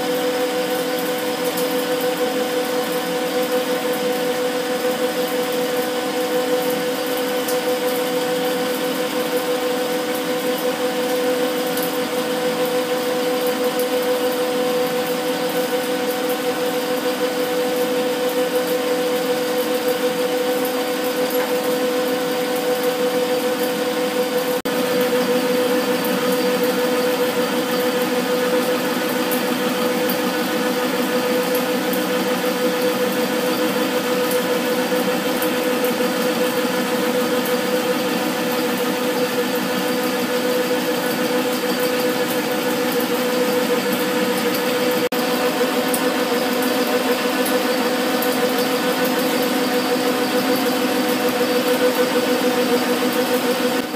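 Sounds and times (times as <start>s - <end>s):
constant machine whine: 0.0s - 53.9s
metal lathe humming: 0.0s - 53.9s.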